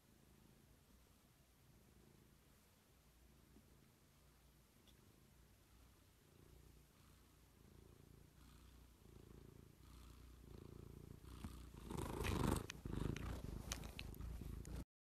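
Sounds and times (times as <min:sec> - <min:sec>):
cat purring: 0:00.0 - 0:14.8.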